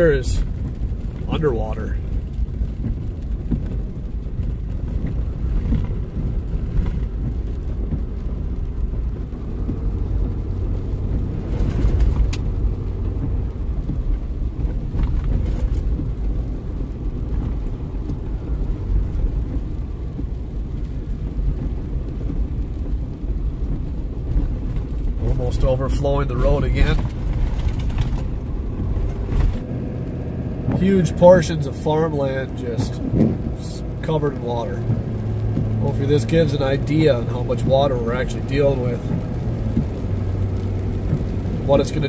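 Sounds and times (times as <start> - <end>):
truck engine and road rumble: 0.0 - 42.0.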